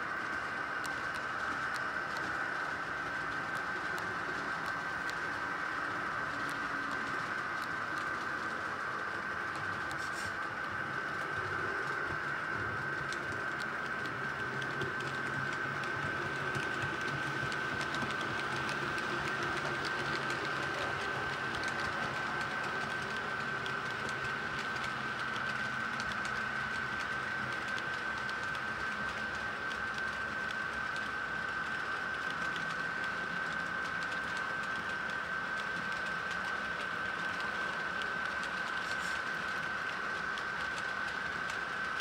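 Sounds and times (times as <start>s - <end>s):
model train running gear whine: 0.0s - 42.0s.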